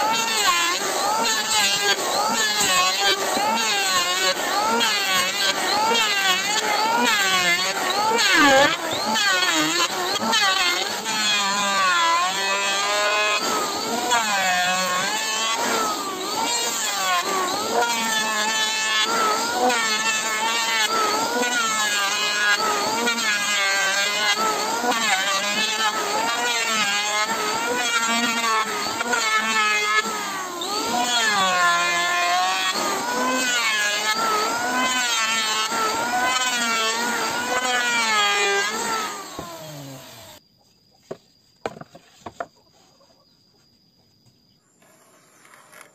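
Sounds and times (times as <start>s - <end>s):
electric hand planer planing wood: 0.0s - 40.4s, 41.1s - 42.5s.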